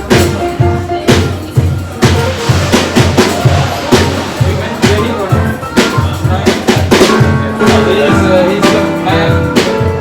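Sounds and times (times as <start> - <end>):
drum kit beat: 0.0 - 10.0
live band music: 0.0 - 10.0.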